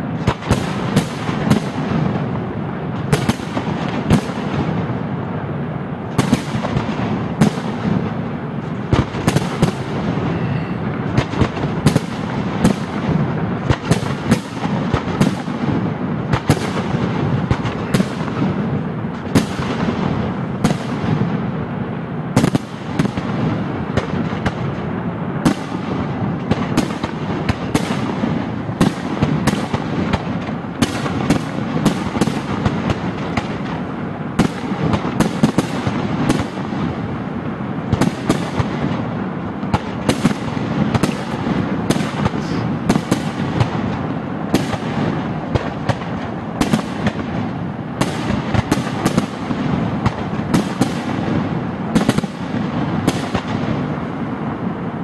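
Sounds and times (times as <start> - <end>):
low din of explosions: 0.0 - 55.0.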